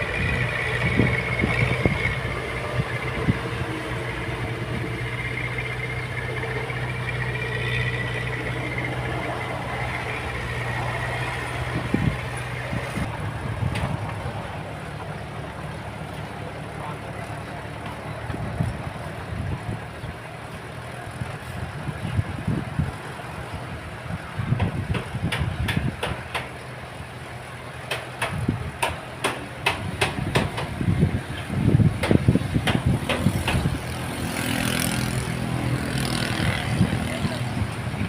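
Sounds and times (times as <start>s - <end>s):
heavy machine engine running: 0.0s - 38.0s.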